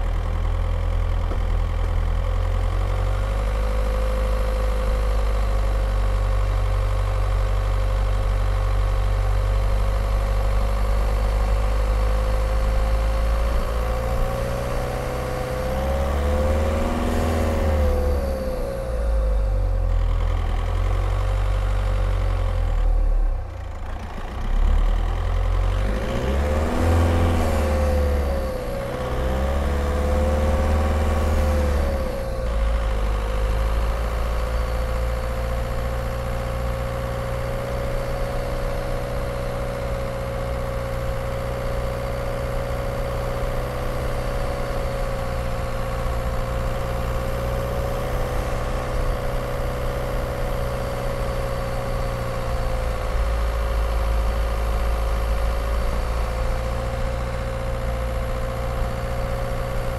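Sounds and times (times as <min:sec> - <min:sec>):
diesel car engine revving: 0:00.0 - 0:59.9.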